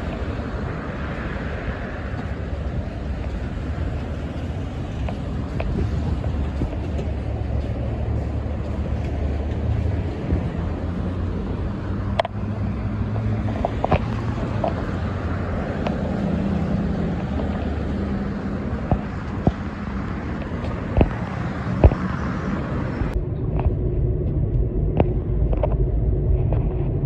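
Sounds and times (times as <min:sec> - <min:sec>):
heavy truck engine running: 0:00.0 - 0:27.0
road noise: 0:00.0 - 0:27.0.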